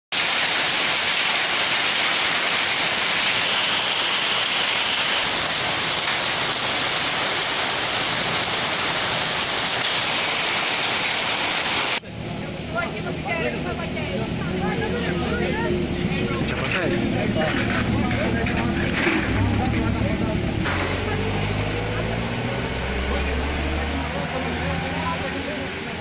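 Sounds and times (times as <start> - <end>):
heavy rain pouring: 0.1 - 12.0, 12.7 - 26.0.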